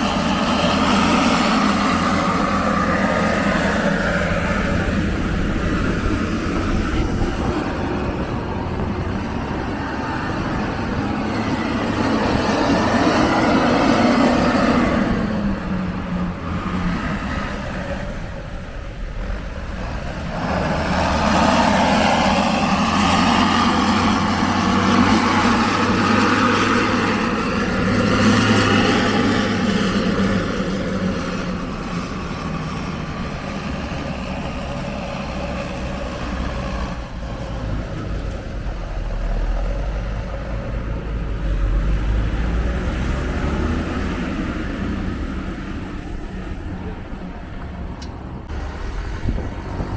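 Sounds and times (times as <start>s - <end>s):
tyre and wind noise: 0.0s - 49.9s
vehicle engine hum: 0.0s - 49.9s.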